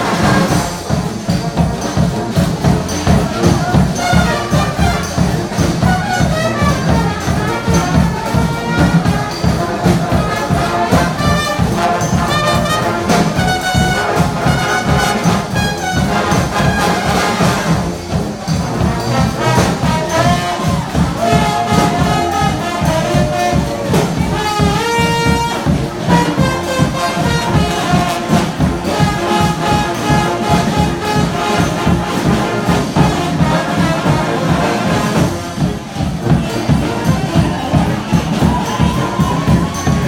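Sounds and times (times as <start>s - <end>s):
brass band playing: 0.0s - 40.0s
steady drum beat: 0.0s - 40.0s.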